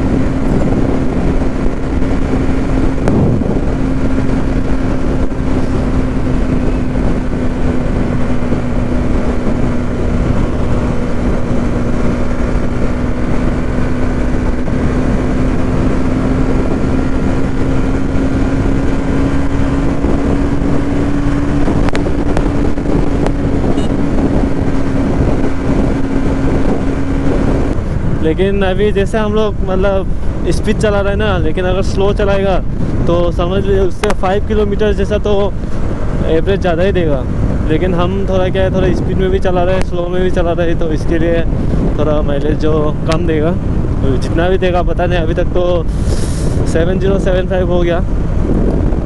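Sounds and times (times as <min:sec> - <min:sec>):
motorcycle engine cruising: 0:00.0 - 0:49.0
wind rushing over microphone: 0:00.0 - 0:49.0.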